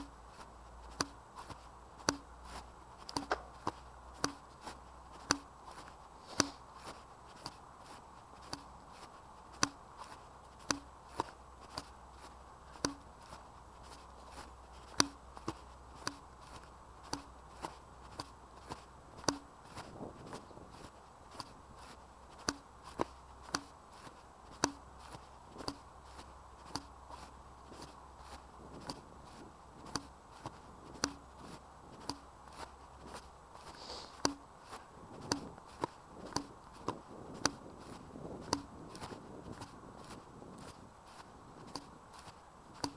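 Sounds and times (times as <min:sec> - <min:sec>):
crunching footsteps: 0:00.0 - 0:42.9.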